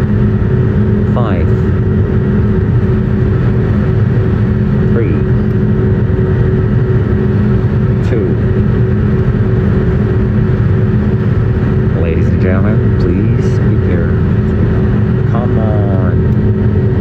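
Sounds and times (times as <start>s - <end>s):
jet engine hum from cabin: 0.0s - 17.0s.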